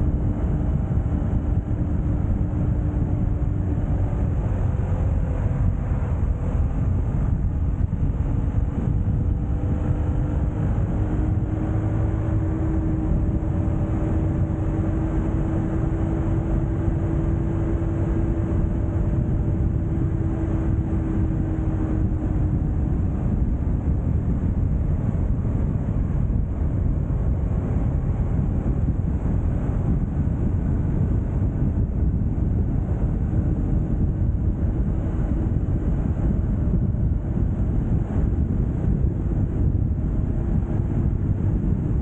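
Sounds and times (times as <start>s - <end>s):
faint hum dropping in pitch: 0.0s - 42.0s
highway road noise: 0.0s - 42.0s
wind rushing over microphone: 0.0s - 42.0s.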